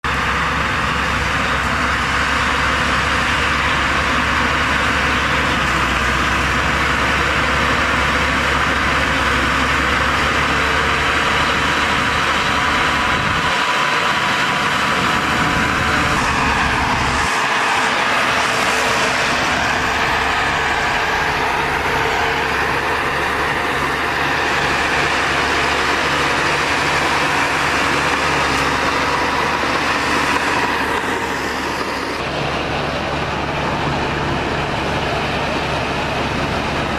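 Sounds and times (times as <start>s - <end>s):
heavy diesel machinery engine rumble: 0.0s - 36.9s.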